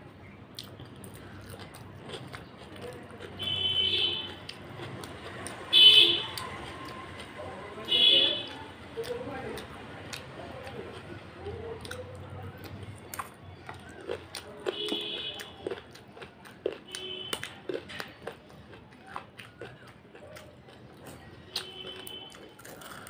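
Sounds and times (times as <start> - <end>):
wet chewing and lip smacks: 0.5 - 3.6, 4.2 - 7.4, 8.5 - 23.0.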